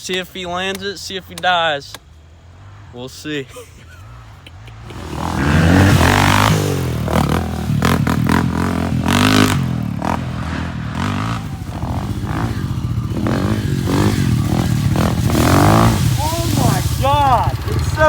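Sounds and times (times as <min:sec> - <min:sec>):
off-road engine revving: 0:00.1 - 0:18.0.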